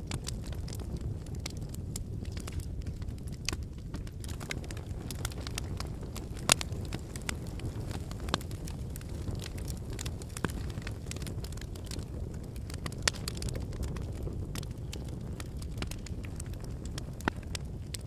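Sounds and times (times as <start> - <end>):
campfire flames rumbling: 0.0 - 18.0
firewood crackling and popping: 0.0 - 18.0.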